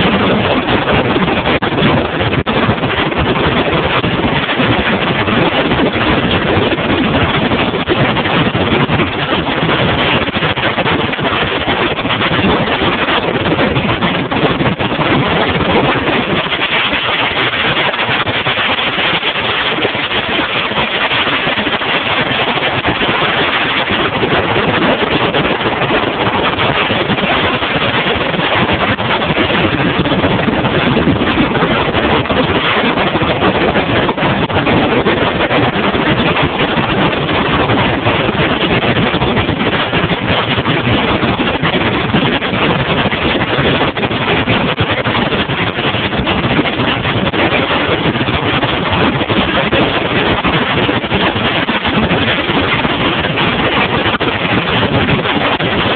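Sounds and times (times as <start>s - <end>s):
outboard motor boat rushing: 0.0s - 55.9s.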